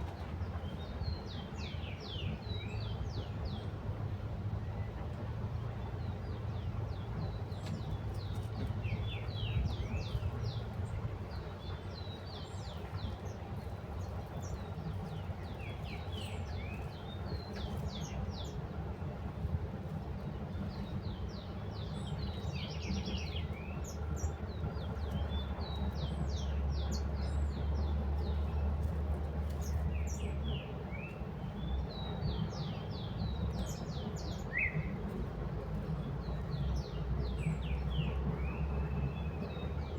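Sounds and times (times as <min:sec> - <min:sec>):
small birds chirping: 0:05.7 - 0:18.9, 0:20.2 - 0:39.9.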